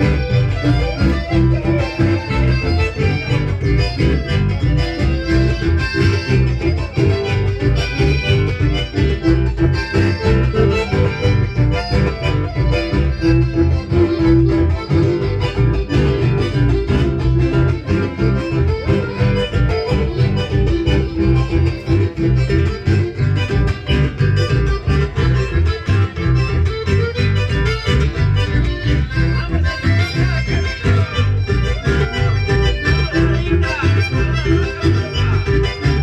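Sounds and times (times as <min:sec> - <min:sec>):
guitar: 0:00.0 - 0:36.0
heavy bass beat: 0:00.0 - 0:36.0.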